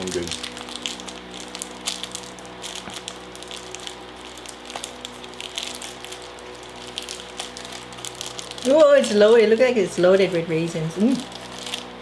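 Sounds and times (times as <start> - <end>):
plastic wrapper crinkling: 0.0 - 12.0
steady low hum: 0.0 - 12.0.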